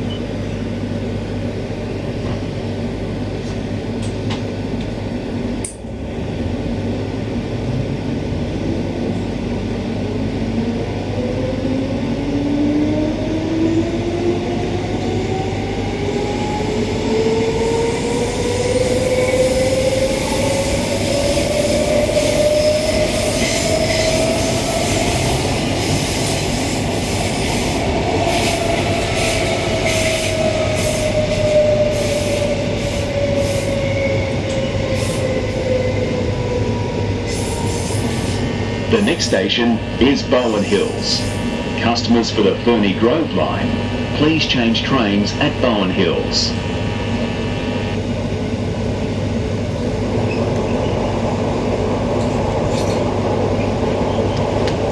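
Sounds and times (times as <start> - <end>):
rumble of train wheels: 0.0 - 54.9.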